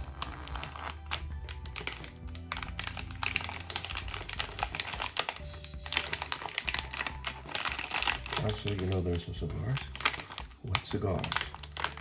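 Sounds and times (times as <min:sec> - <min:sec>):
background music with low bass: 0:00.0 - 0:12.0
paper and packaging crinkling: 0:00.0 - 0:12.0.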